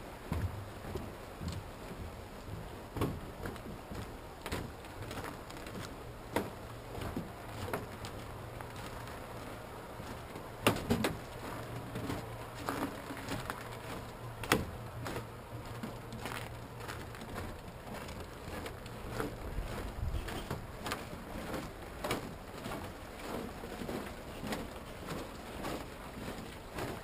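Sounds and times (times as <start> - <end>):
footsteps on snowy wooden dock: 0.0 - 27.0.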